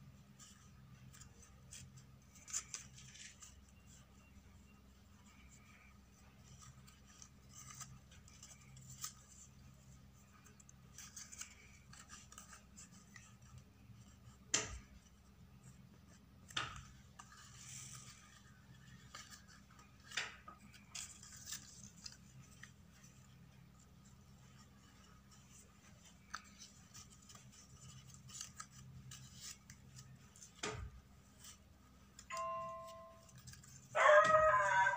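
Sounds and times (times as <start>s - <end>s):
paper rustling: 0.1s - 34.9s.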